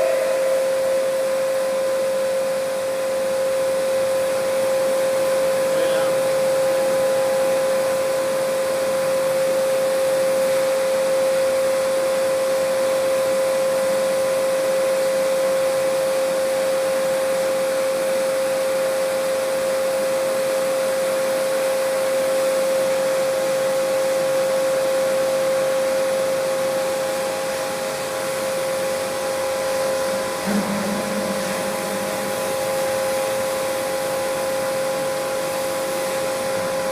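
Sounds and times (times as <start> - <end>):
pressure washer motor whine: 0.0 - 36.9.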